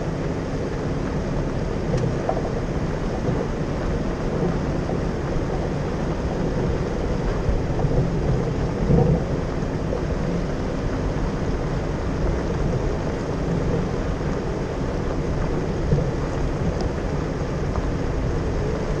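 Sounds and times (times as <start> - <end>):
engine and tyres on dirt: 0.0 - 19.0.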